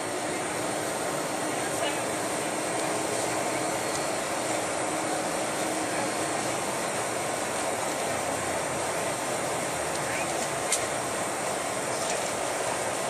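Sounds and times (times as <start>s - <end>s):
jet engines at low power: 0.0s - 13.0s.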